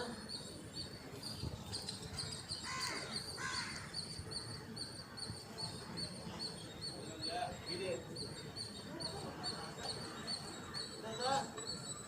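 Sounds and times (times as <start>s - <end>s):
harsh bird calls: 0.0s - 12.0s.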